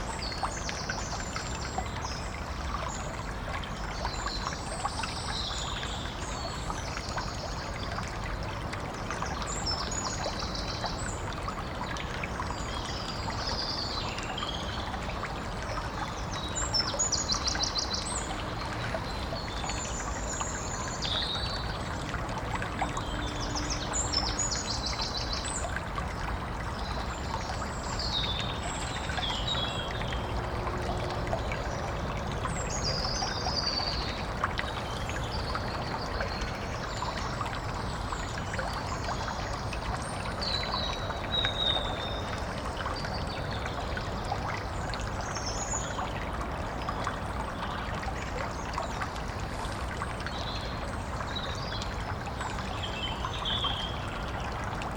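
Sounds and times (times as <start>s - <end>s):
stream trickling and splashing: 0.0s - 54.9s.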